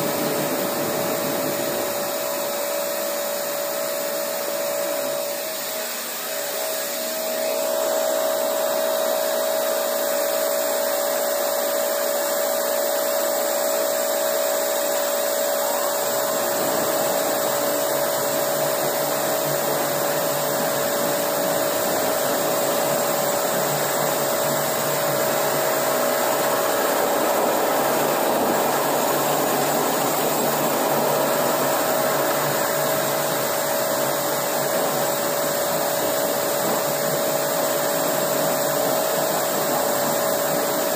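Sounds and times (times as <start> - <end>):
floor grinder whining: 0.0 - 40.9.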